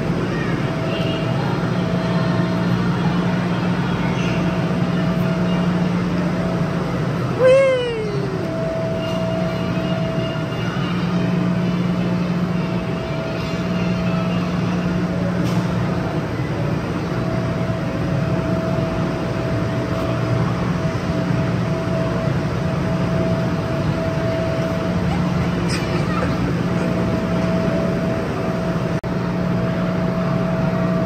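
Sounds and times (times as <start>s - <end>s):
cooling machinery drone: 0.0s - 31.0s.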